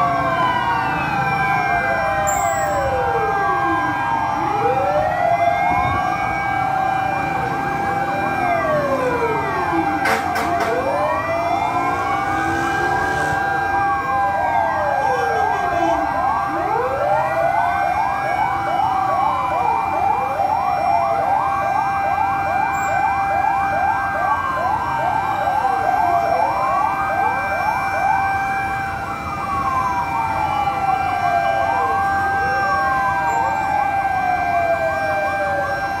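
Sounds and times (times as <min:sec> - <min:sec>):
fast siren yelp: 0:00.0 - 0:36.0
fire truck siren wailing: 0:00.0 - 0:36.0
steady siren tone: 0:00.0 - 0:36.0.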